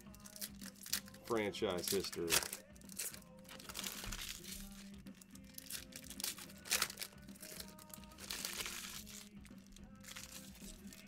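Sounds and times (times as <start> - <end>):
trading cards rustling and flicking: 0.1 - 11.0.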